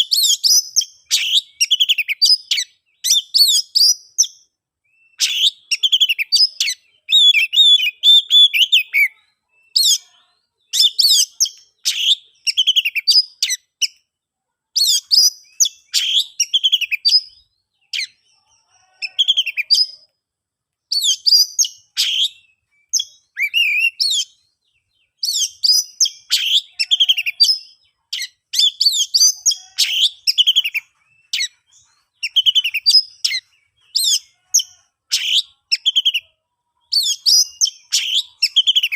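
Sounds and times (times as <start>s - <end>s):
magpie-robin singing: 0.0s - 14.1s, 14.8s - 20.1s, 20.9s - 38.9s.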